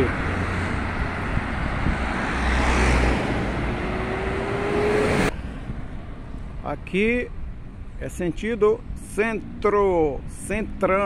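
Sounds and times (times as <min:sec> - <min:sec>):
cars passing by: 0:00.0 - 0:11.0.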